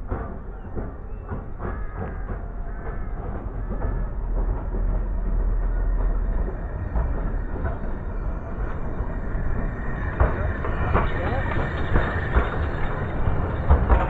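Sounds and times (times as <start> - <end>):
train rolling rumble: 0.0 - 14.0
wheels clicking over rail joints: 0.0 - 14.0.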